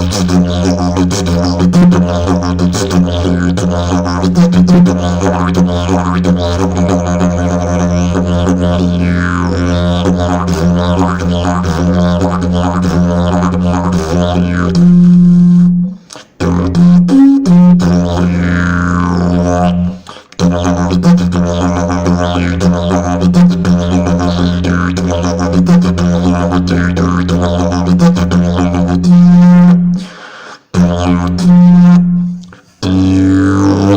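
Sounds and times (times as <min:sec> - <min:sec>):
didgeridoo drone: 0:00.0 - 0:30.2, 0:30.8 - 0:33.9
didgeridoo hooting toot: 0:00.0 - 0:33.9.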